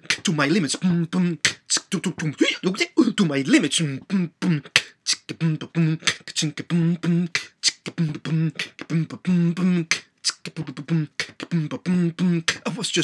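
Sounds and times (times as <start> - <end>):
man beatboxing: 0.0 - 13.0.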